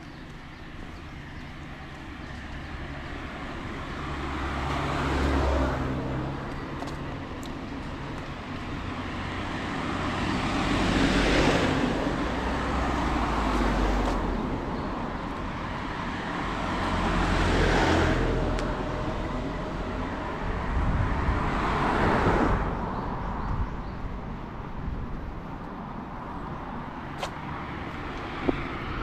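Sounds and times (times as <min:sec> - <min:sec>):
cars passing close by: 0:00.0 - 0:29.0
low traffic hum: 0:00.0 - 0:29.0.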